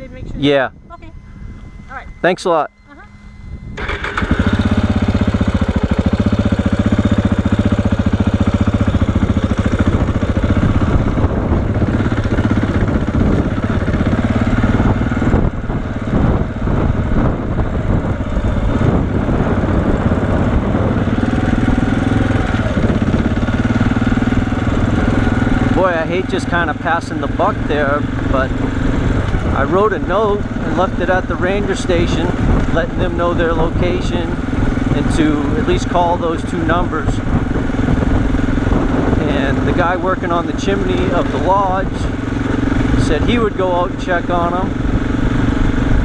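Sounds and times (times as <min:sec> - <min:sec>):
motorcycle engine riding: 0:00.0 - 0:46.0.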